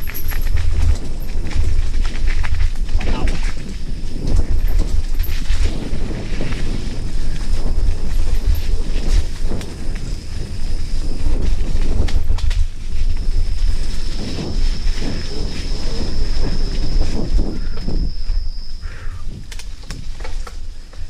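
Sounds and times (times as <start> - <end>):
high insect drone: 0.0 - 21.0
mountain bike rattling on trail: 0.0 - 21.0
wind rumbling on microphone: 0.0 - 21.0.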